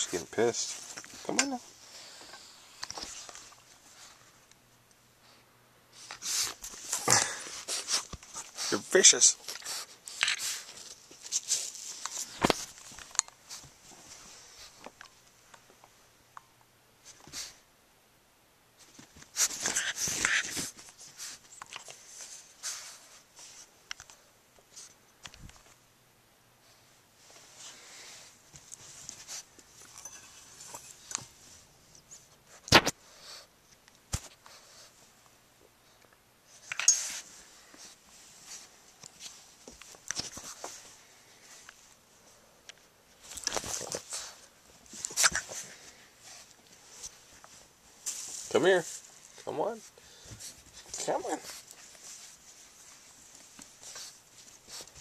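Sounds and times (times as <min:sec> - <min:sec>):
puppy scuffling and rustling: 0:00.0 - 0:04.6, 0:05.2 - 0:16.1, 0:17.0 - 0:17.6, 0:18.8 - 0:25.9, 0:26.6 - 0:55.0
quiet rustles and clicks: 0:00.0 - 0:05.1, 0:05.9 - 0:17.6, 0:18.8 - 0:25.9, 0:26.6 - 0:55.0.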